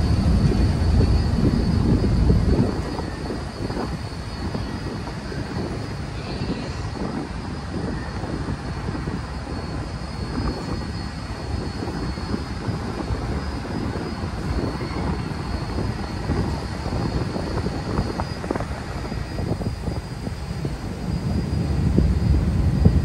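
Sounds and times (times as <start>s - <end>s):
faint high whine: 0.0s - 23.0s
ferry engines droning: 0.0s - 23.0s.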